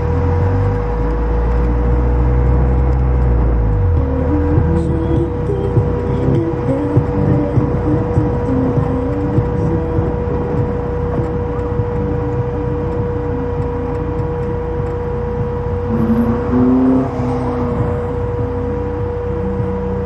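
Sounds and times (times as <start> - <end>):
car engine: 0.0 - 20.0
music playing: 0.0 - 20.0
road noise: 0.0 - 20.0.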